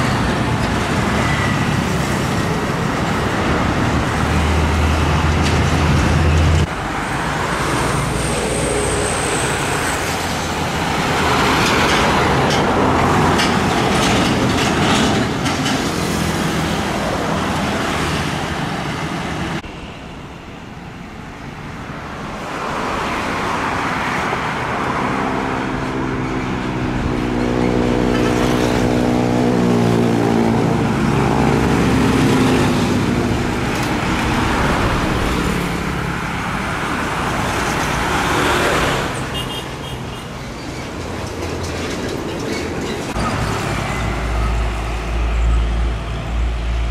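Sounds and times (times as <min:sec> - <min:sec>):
road traffic: 0:00.0 - 0:46.9.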